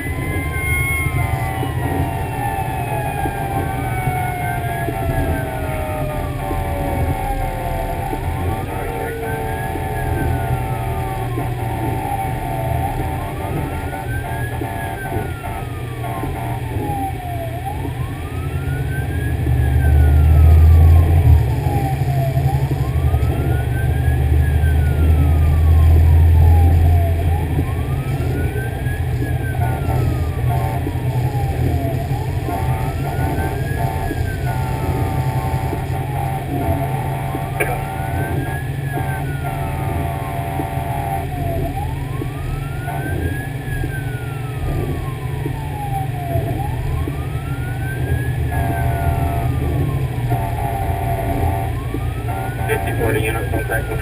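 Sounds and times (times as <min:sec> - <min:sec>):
fire engine wail siren: 0:00.0 - 0:54.0
truck engine rumble: 0:00.0 - 0:54.0.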